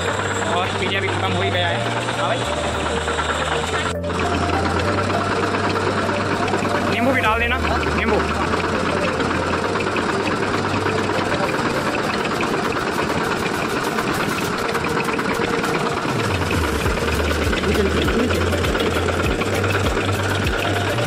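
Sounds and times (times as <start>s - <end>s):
crushing machine rattling: 0.0s - 21.0s.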